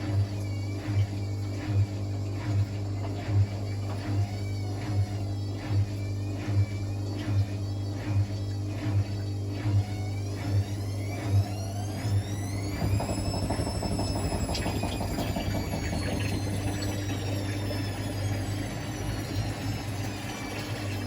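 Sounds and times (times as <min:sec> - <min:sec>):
washing machine drum turning: 0:00.0 - 0:21.0.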